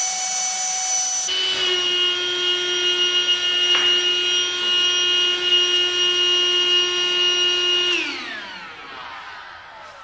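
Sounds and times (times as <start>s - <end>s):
air compressor motor humming: 0.0s - 9.3s.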